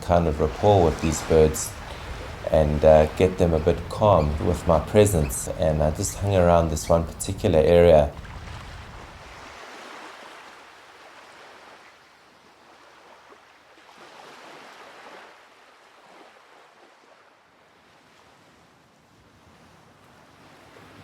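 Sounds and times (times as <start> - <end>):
surf washing on a beach: 0.0 - 21.0.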